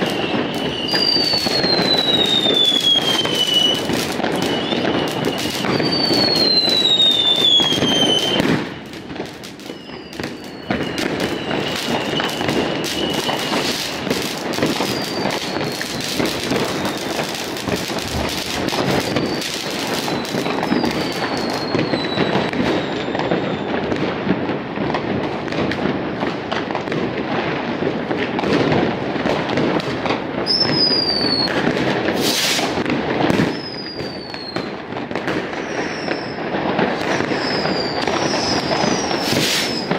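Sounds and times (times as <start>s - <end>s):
fireworks bangs and crackling: 0.0s - 39.9s
whistling rockets: 0.0s - 39.9s.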